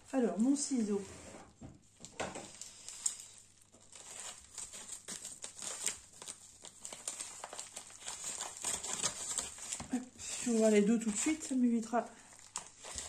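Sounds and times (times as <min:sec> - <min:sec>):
plastic bag crinkling: 0:01.8 - 0:13.0.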